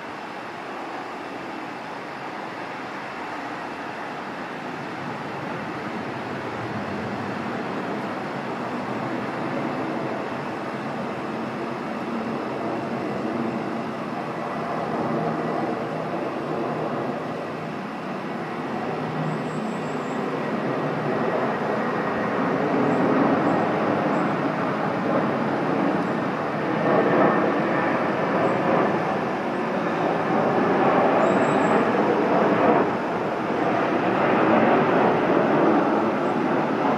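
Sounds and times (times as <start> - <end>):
aircraft engines rushing: 0.0 - 36.9
faint steady whine: 0.0 - 36.9.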